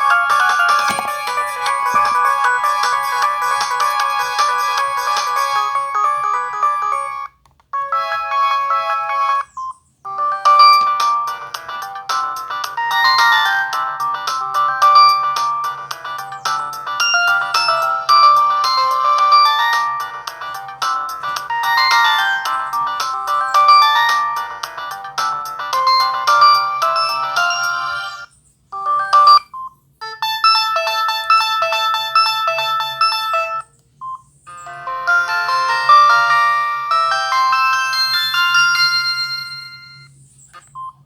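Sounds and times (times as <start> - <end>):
phone ringtone melodies: 0.0 - 33.7, 34.5 - 40.1.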